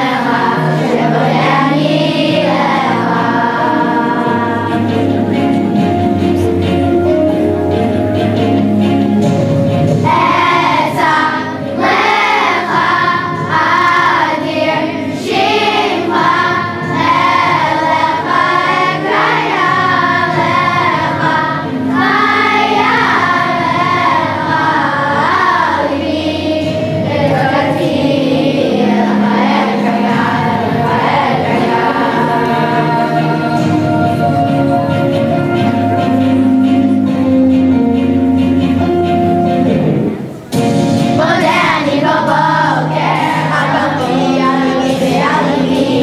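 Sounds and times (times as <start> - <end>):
children's choir singing: 0.0 - 46.0
musical accompaniment: 0.0 - 46.0.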